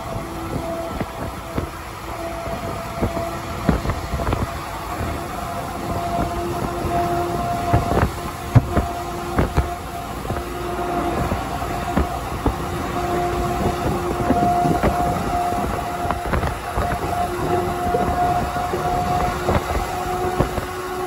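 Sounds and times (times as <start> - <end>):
vehicle road noise rumble: 0.0 - 21.0.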